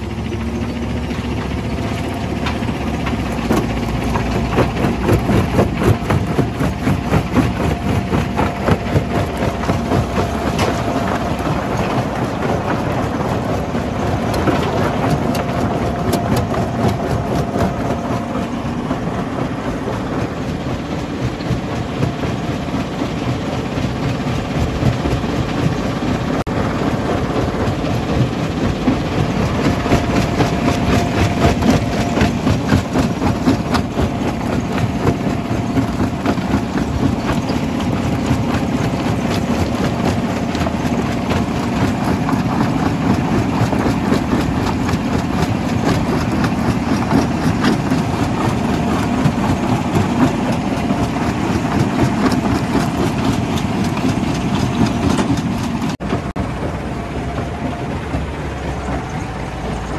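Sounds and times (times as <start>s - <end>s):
crusher mechanical clatter: 0.0s - 59.9s
heavy diesel engine running: 0.0s - 59.9s.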